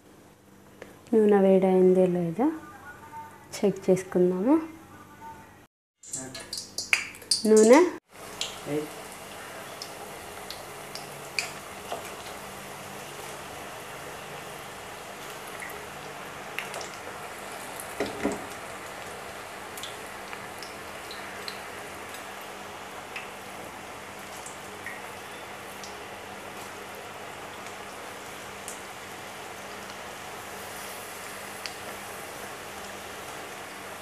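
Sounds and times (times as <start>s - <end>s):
batter deep-frying in oil: 6.0s - 34.0s.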